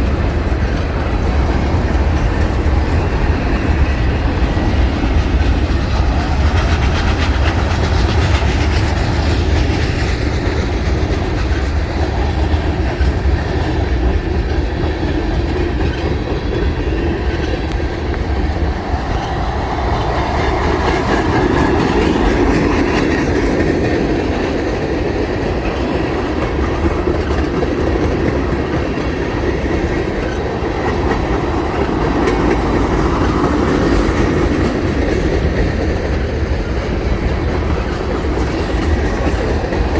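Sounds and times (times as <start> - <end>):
heavy low train rumble: 0.0 - 39.9
train wheels clacking: 0.0 - 39.9.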